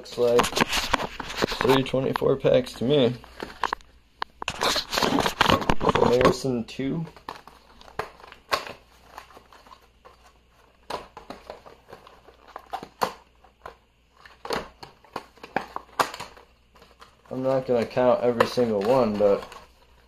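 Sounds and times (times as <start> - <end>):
packets crinkling and rustling: 0.0 - 20.0.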